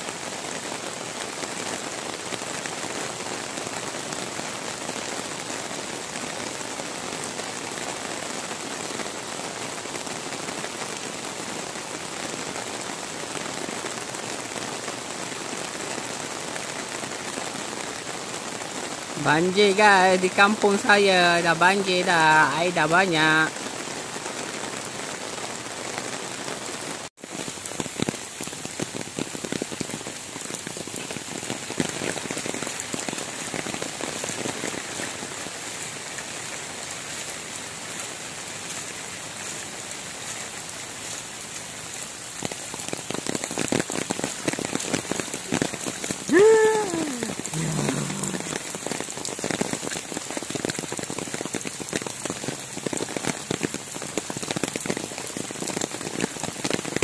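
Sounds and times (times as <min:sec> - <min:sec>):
heavy rain pouring on water: 0:00.0 - 0:57.0.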